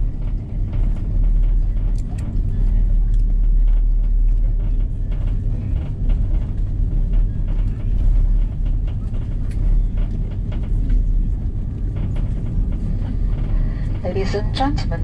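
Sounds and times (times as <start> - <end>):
airliner cabin rumble rolling on ground: 0.0 - 15.0
light clicks and rattles: 0.2 - 15.0.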